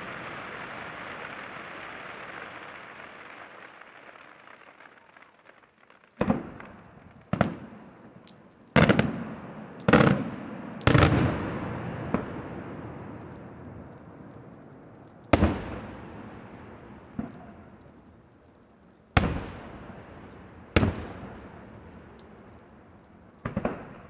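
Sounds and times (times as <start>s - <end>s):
firework shells bursting: 0.0s - 24.0s.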